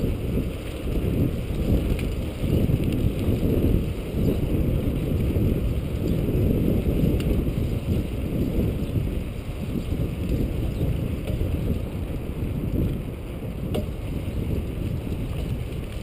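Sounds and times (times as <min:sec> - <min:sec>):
bicycle tyre noise on pavement: 0:00.0 - 0:16.0
wind buffeting microphone: 0:00.0 - 0:16.0.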